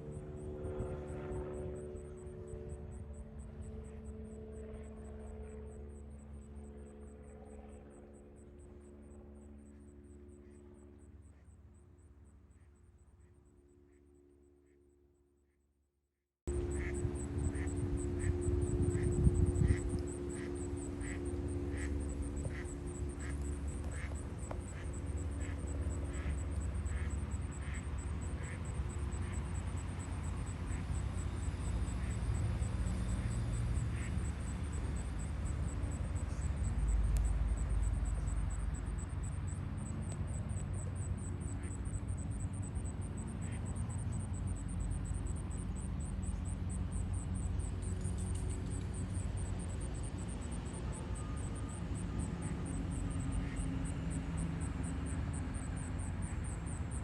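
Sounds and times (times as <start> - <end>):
high pulsing whine: 0.0 - 14.8, 16.5 - 57.0.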